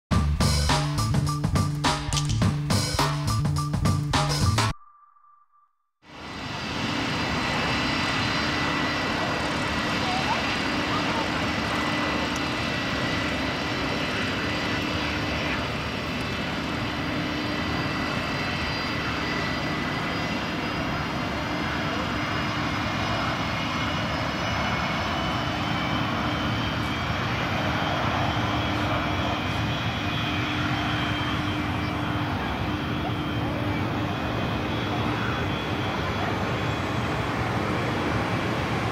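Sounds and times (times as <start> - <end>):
aircraft engine and propeller drone: 0.3 - 4.2, 6.1 - 38.9.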